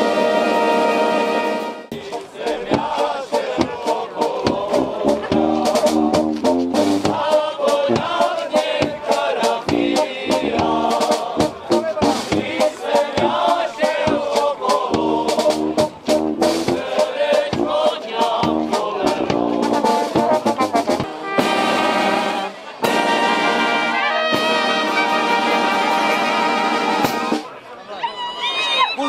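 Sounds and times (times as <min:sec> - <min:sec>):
brass band playing folk dance tune: 0:00.0 - 0:27.7.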